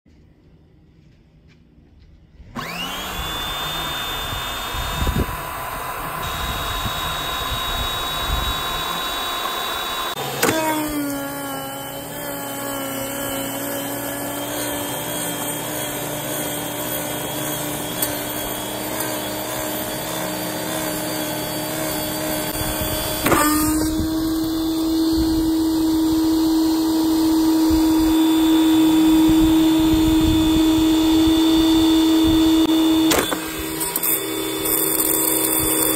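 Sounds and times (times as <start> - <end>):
pressure washer motor whining: 2.6 - 35.9.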